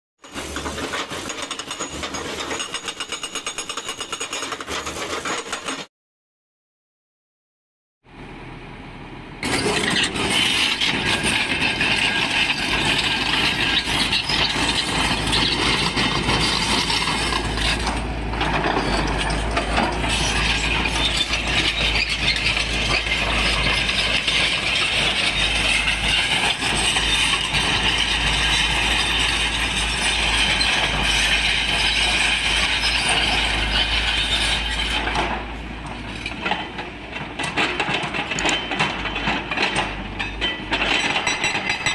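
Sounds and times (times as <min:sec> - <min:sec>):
excavator diesel engine: 0:00.3 - 0:03.5, 0:08.1 - 0:41.9.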